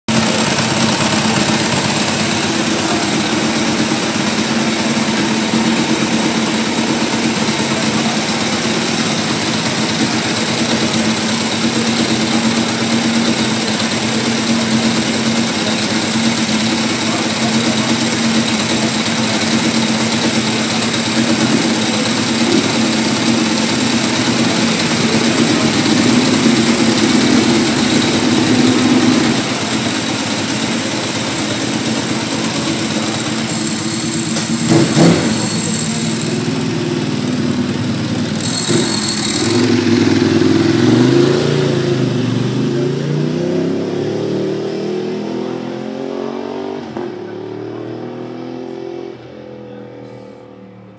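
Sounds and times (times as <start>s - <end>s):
motorcycle engine racing: 0.0s - 50.9s.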